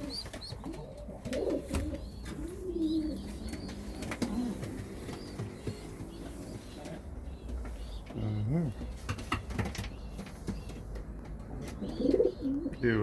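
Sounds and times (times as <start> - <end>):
pigeons cooing: 0.0 - 9.2, 11.6 - 13.0.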